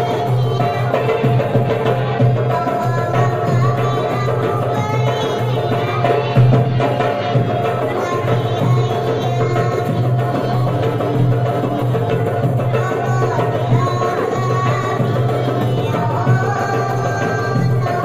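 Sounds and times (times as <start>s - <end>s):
hand drums beating: 0.0s - 18.0s
person singing into microphone: 0.0s - 18.0s.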